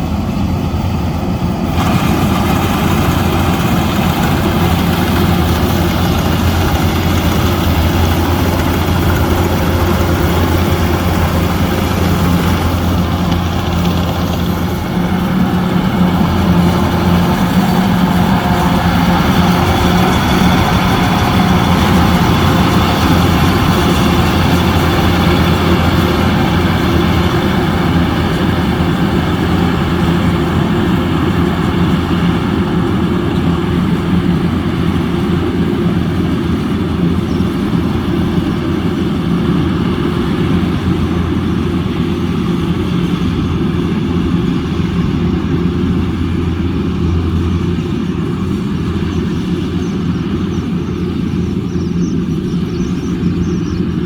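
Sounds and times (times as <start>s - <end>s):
harvester engine humming: 0.0s - 54.0s.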